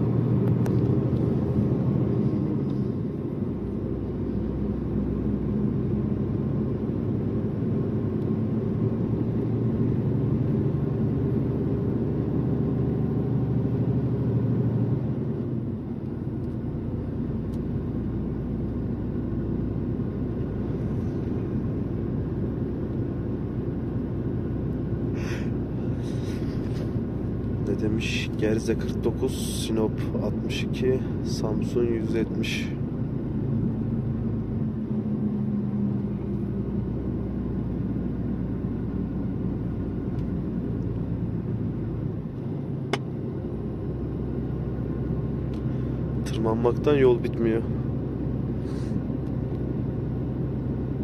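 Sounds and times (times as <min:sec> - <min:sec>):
truck diesel engine droning: 0:00.0 - 0:51.0.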